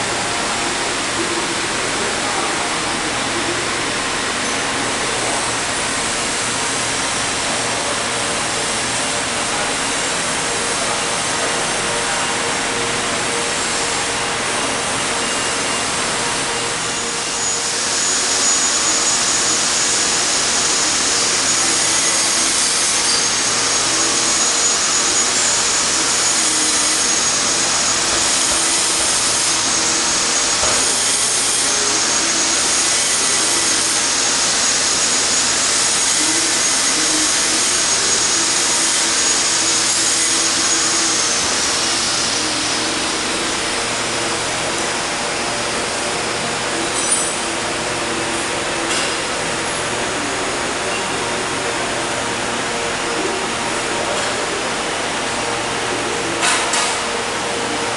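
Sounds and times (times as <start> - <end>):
high machine whine: 0.0 - 57.9
machine running: 0.0 - 57.9.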